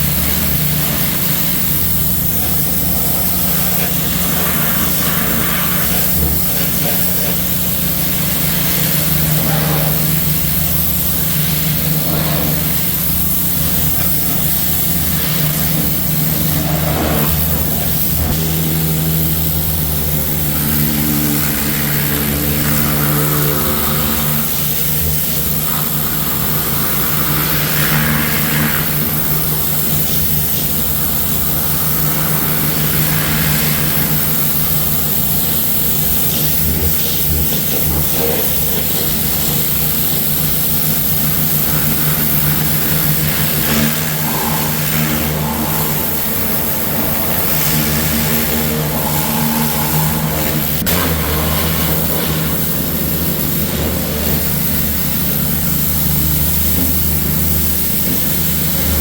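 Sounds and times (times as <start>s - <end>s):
loud hiss of spray: 0.0s - 59.0s
small engine running: 0.0s - 59.0s.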